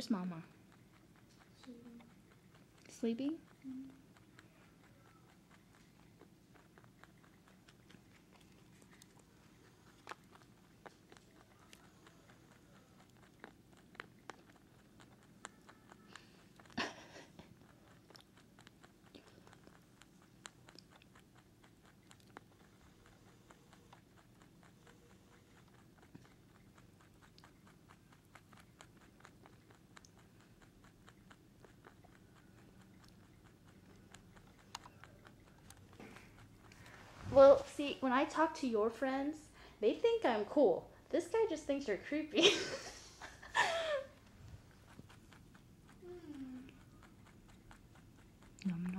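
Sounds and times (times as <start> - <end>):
rabbit chewing food: 0.0 - 48.9.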